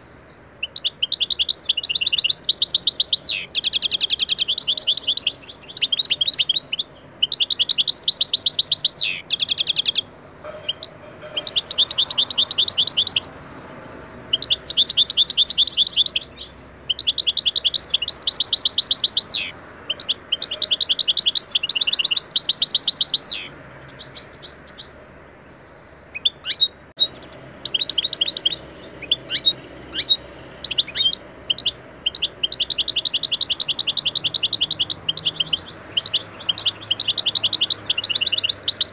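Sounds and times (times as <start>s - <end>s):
bird chirps: 0.0s - 25.0s, 25.6s - 38.9s
bird trilling song: 0.0s - 25.0s, 25.6s - 38.9s.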